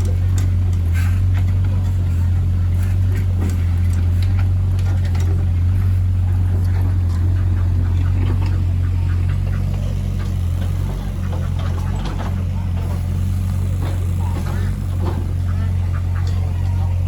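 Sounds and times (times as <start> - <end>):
excavator diesel engine drone: 0.0 - 17.0.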